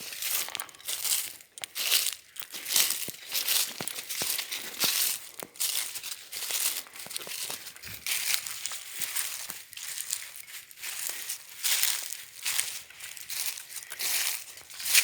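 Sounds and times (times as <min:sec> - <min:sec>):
footsteps crunching dry leaves: 0:00.0 - 0:15.0.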